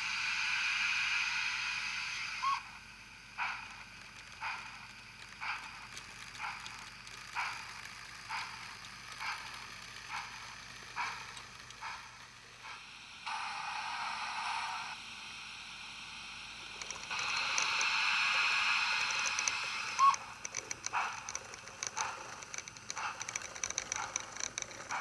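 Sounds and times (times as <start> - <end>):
steam hiss: 0.0 - 25.0
steam locomotive chuffs: 0.0 - 25.0.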